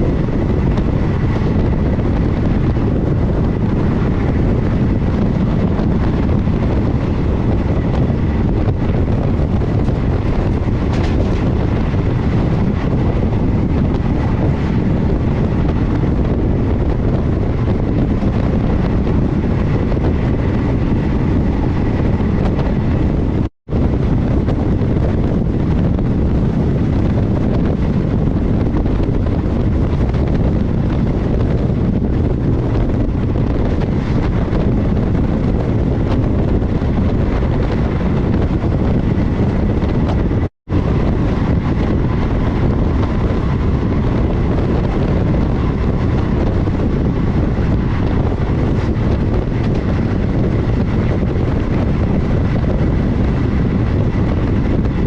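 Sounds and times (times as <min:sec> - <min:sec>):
passenger train rumbling: 0:00.0 - 0:55.0
wind buffeting microphone: 0:00.0 - 0:55.0.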